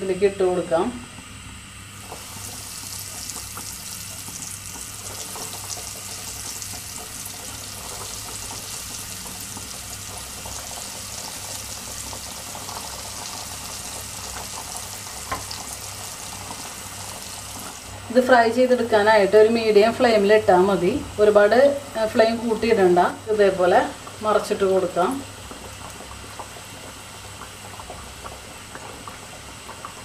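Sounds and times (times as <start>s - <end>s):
food deep-frying in oil: 1.3s - 30.0s.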